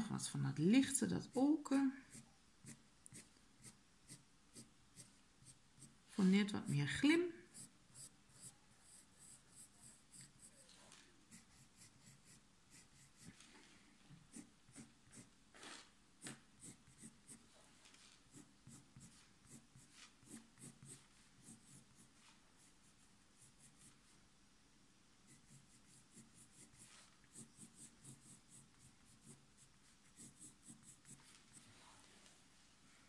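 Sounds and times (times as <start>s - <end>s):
pencil scratching on paper: 0.8s - 10.7s, 11.3s - 13.4s, 14.3s - 15.3s, 16.2s - 17.5s, 18.3s - 24.0s, 25.3s - 31.7s.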